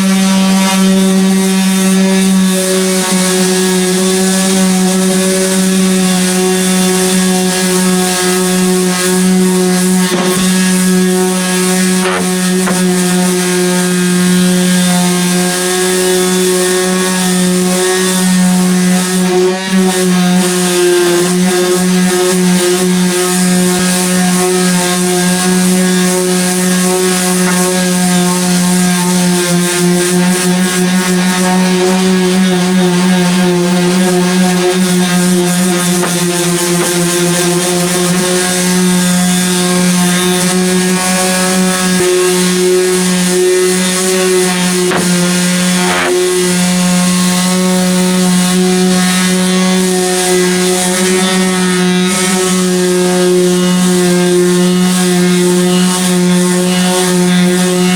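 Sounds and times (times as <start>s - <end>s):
power sander running: 0.0s - 57.9s.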